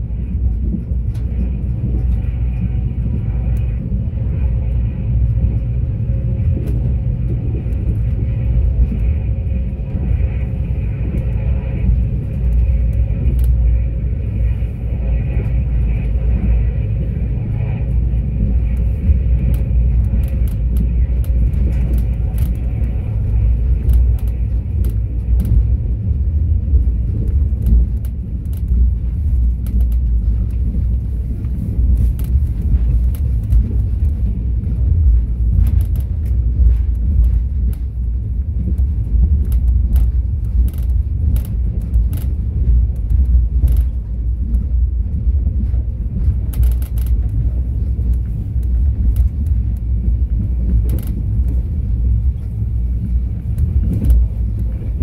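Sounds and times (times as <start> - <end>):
faint whine: 0.0 - 55.0
train rumbling on track: 0.0 - 55.0.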